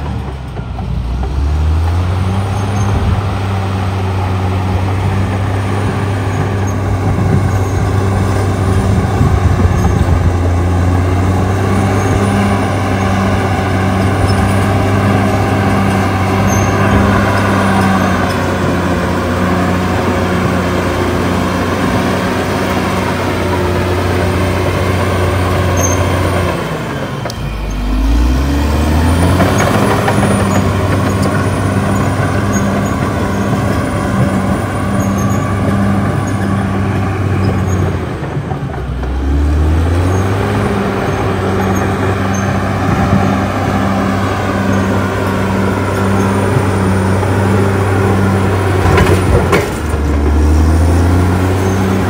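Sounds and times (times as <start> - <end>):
bulldozer diesel engine running hard: 0.0 - 52.0.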